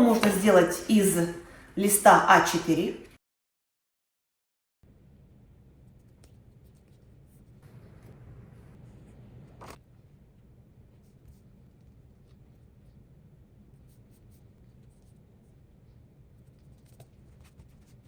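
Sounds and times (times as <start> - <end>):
low steady room hum: 0.0 - 3.2, 4.9 - 18.0.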